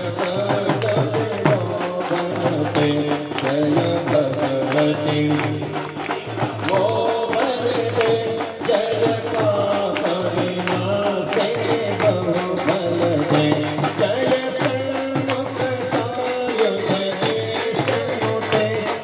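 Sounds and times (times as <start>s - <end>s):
devotional hymn singing: 0.0s - 19.0s
percussive beat: 0.0s - 19.0s.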